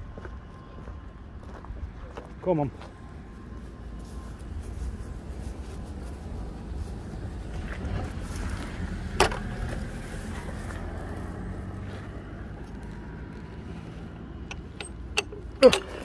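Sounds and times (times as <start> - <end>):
engine humming: 2.8 - 16.0.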